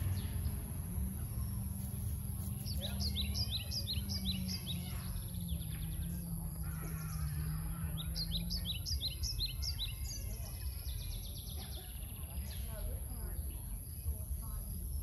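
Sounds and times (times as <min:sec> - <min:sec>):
low steady rumble: 0:00.0 - 0:15.0
small bird chirping: 0:00.0 - 0:15.0.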